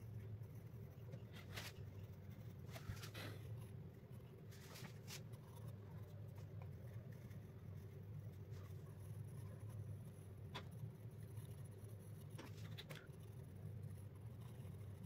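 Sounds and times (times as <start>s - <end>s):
pencil shading on paper: 0.0s - 15.0s.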